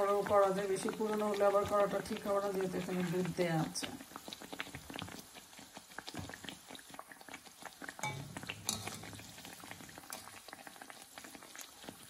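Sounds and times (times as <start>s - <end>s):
hot oil bubbling and crackling: 0.0s - 12.0s.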